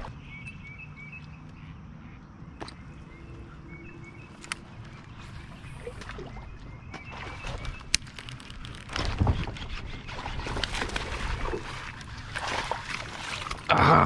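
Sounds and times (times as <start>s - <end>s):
water splashing around kayak: 2.5s - 14.0s.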